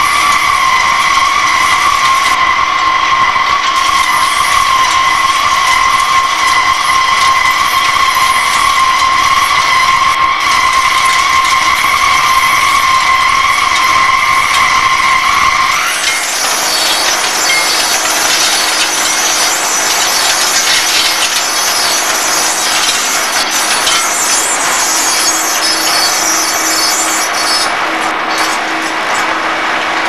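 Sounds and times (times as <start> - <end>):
cutting tool squealing: 0.0 - 29.3.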